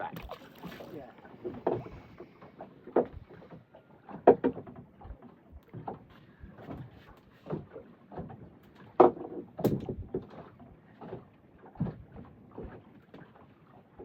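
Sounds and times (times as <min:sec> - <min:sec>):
knocks on a boat: 0:01.4 - 0:12.8.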